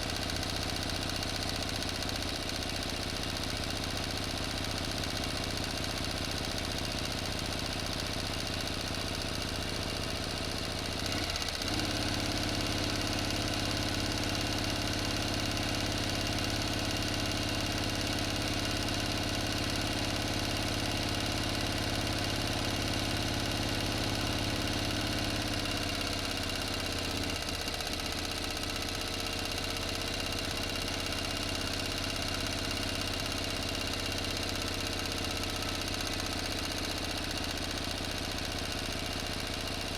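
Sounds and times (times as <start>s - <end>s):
motor engine running: 0.0s - 39.9s.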